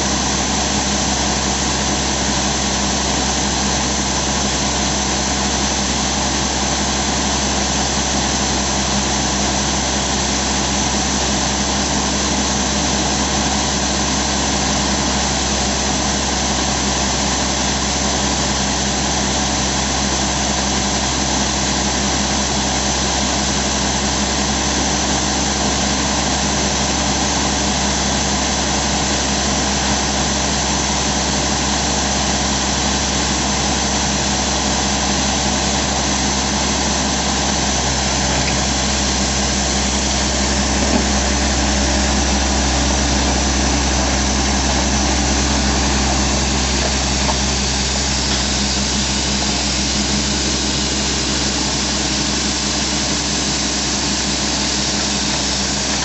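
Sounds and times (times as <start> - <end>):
rock drill machinery drone: 0.0 - 56.0.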